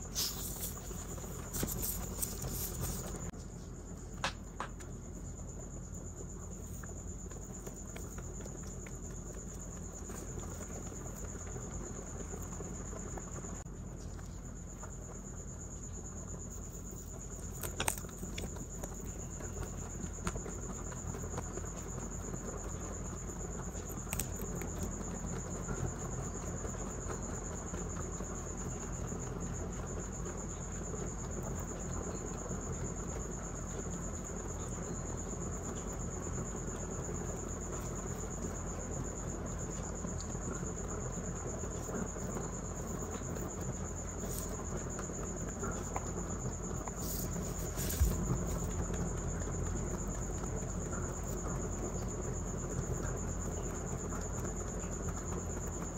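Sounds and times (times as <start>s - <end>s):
rabbits crunching and chewing: 0.0s - 55.9s.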